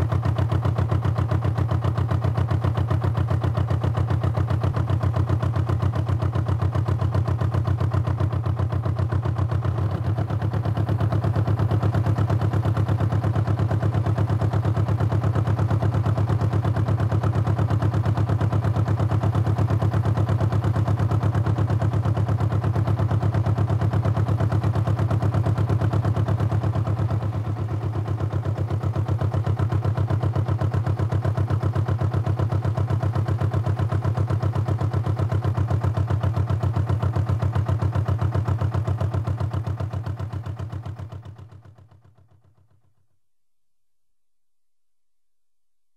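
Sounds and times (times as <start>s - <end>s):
engine running at low speed: 0.0s - 43.0s.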